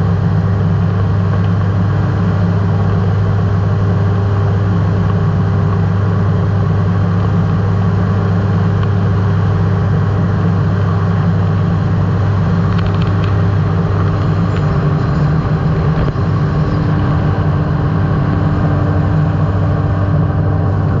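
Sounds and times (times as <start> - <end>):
microlight engine and propeller drone: 0.0 - 21.0.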